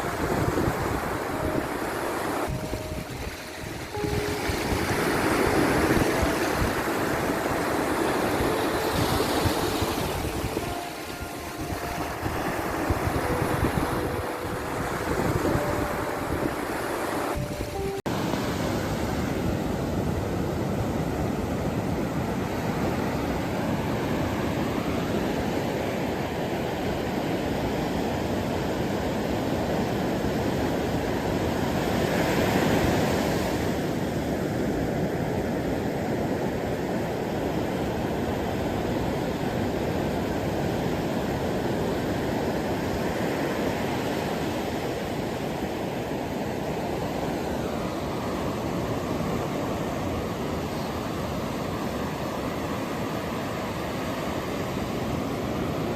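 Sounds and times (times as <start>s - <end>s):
ocean surf: 0.0s - 55.9s.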